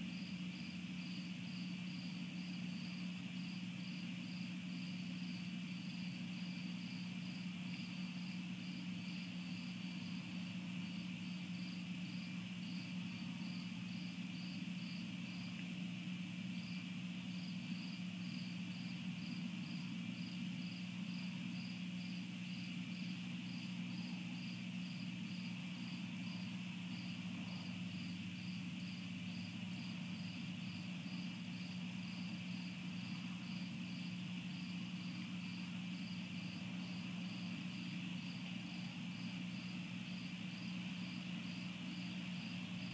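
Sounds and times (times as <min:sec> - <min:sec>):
continuous insect trill: 0:00.0 - 0:42.9
crickets chirping: 0:00.0 - 0:42.9
steady low hum: 0:00.0 - 0:42.9.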